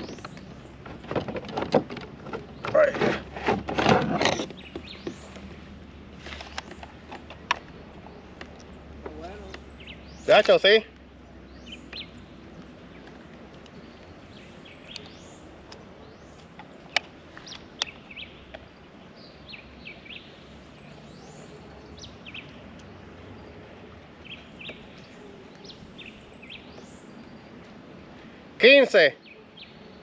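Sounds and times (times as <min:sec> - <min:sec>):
birds chirping: 0:00.0 - 0:30.0
steady outdoor hiss: 0:00.0 - 0:30.0.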